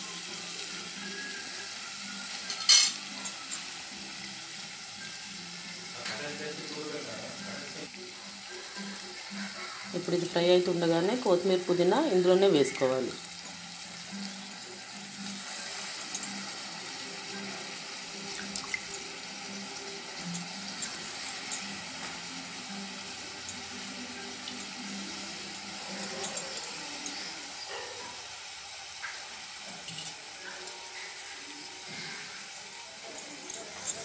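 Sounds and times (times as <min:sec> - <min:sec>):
frying crackles and pops: 0:00.0 - 0:34.0
vegetables sizzling in hot oil: 0:00.0 - 0:34.0.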